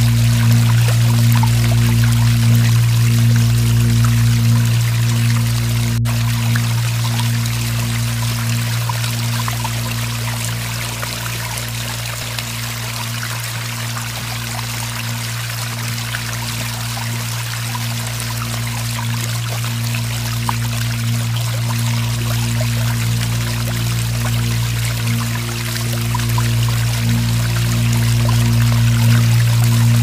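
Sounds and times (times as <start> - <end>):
flowing trickling water: 0.0 - 30.0
steady low drone: 0.0 - 30.0.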